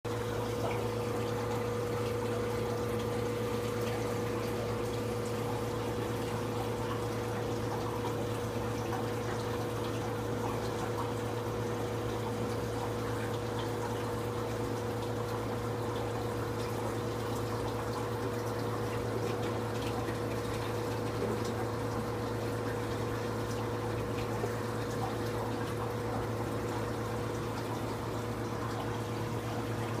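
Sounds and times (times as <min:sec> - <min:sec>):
aquarium pump humming: 0:00.1 - 0:30.0
trickling water: 0:00.1 - 0:30.0.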